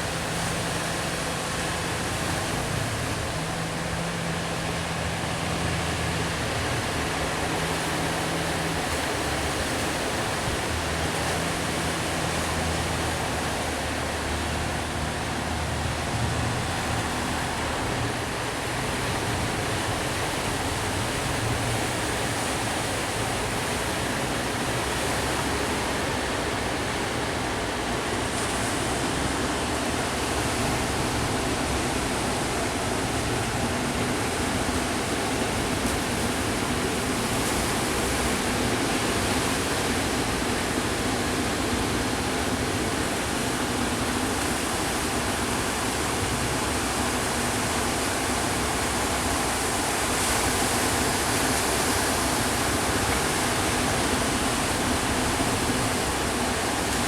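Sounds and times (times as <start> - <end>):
sea surf roaring: 0.0 - 57.0.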